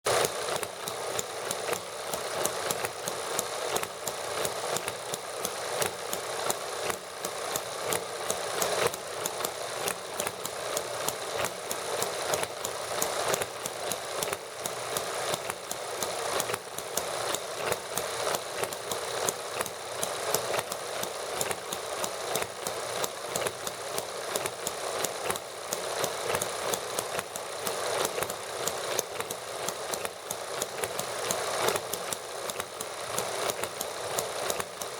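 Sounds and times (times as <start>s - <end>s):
small model engines rattling: 0.1s - 34.9s.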